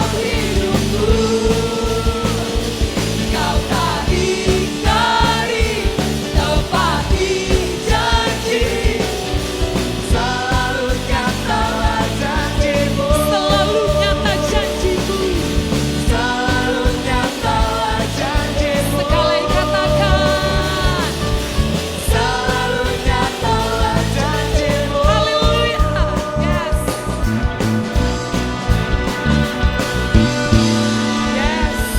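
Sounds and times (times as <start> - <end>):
drums: 0.0 - 31.9
live rock band playing: 0.0 - 31.9
voices singing: 0.0 - 31.9.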